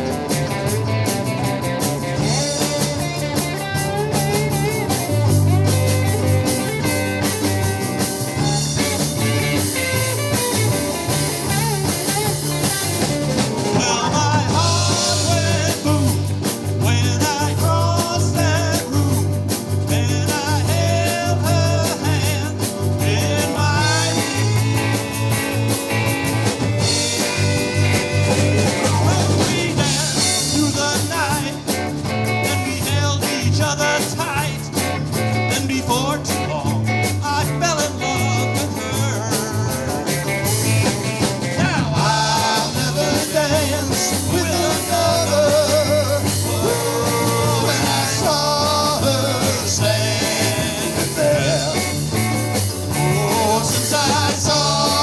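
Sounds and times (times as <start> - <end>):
live rock band playing: 0.0 - 55.0
person singing: 2.1 - 5.0, 7.3 - 40.7, 41.4 - 55.0.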